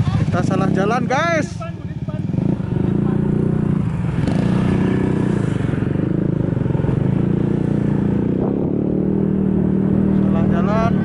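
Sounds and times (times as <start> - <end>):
motor scooter engine running: 0.0 - 11.0.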